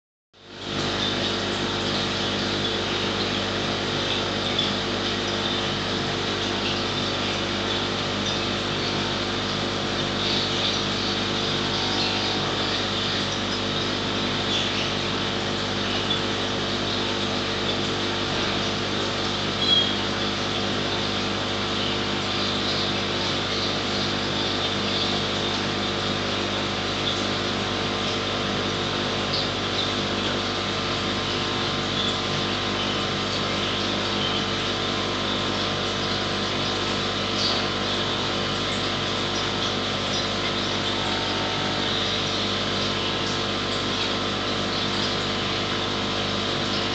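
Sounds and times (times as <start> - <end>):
steady low hum: 0.4 - 46.9.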